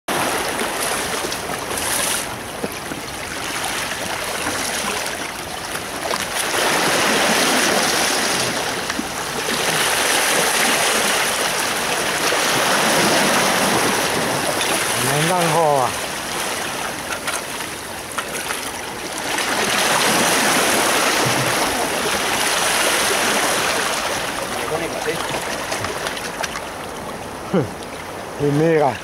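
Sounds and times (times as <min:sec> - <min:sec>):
small waves breaking on rocks: 0:00.1 - 0:29.0.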